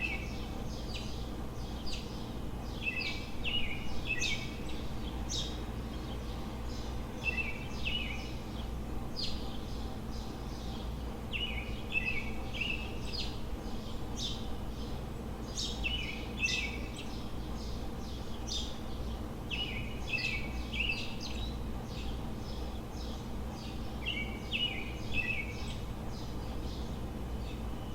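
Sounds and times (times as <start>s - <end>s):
low city hum: 0.0s - 27.9s
songbird singing trill: 0.0s - 27.9s.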